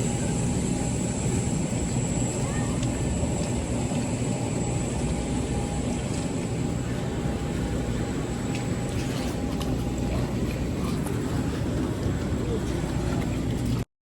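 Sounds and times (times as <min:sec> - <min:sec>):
airliner rumble: 0:00.0 - 0:13.9
high continuous jet whine: 0:00.0 - 0:13.9.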